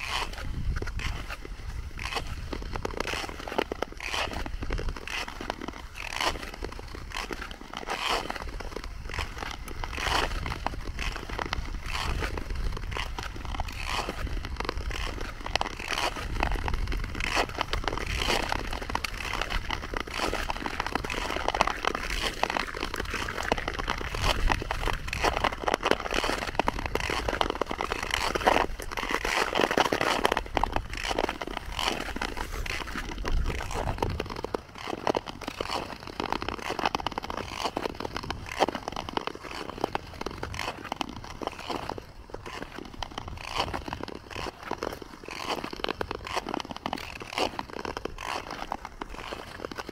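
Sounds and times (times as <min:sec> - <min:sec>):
ice skates scraping on ice: 0:00.0 - 0:49.9.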